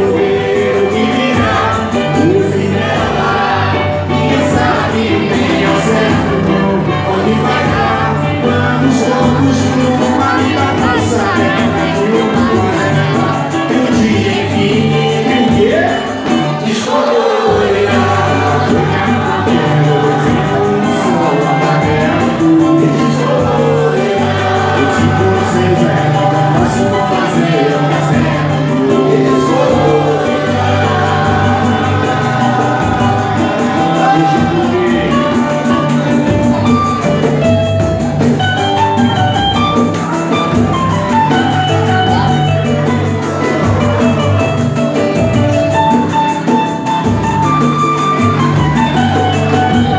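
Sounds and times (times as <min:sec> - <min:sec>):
bass: 0:00.0 - 0:16.8, 0:17.5 - 0:49.9
cavaquinho: 0:00.0 - 0:49.9
person singing: 0:00.0 - 0:49.9
samba music: 0:00.0 - 0:49.9.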